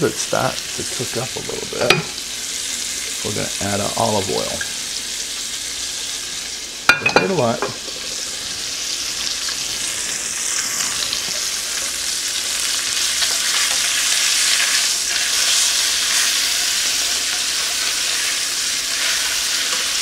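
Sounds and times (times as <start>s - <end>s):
fish sizzling in a frying pan: 0.0s - 20.0s.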